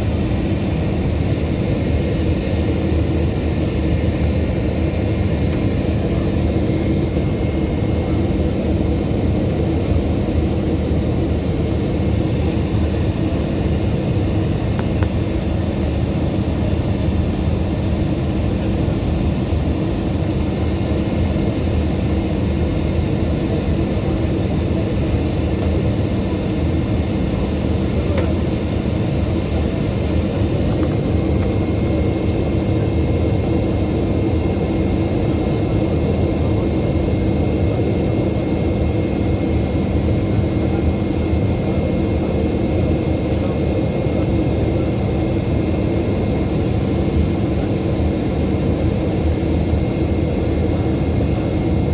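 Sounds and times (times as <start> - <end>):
jet cabin engine drone: 0.0 - 51.9.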